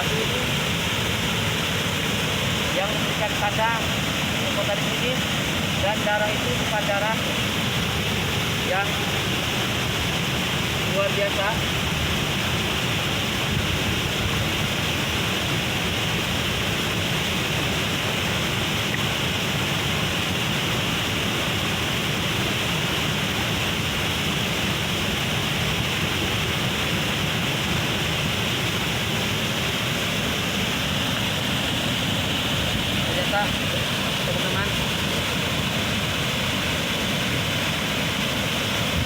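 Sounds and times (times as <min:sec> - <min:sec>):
waterfall roaring: 0:00.0 - 0:39.0.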